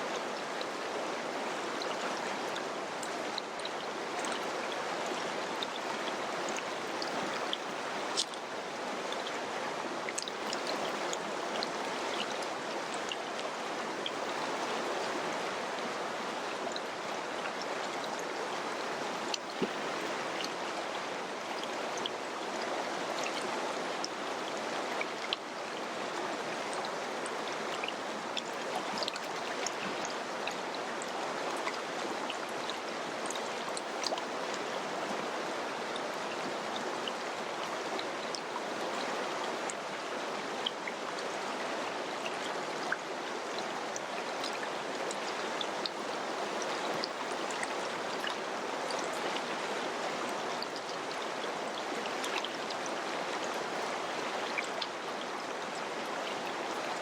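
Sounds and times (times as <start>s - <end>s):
water splashes and drips: 0.0s - 57.0s.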